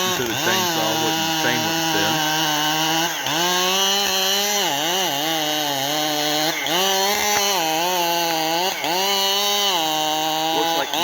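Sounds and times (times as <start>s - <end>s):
chainsaw running at high speed: 0.0s - 11.0s.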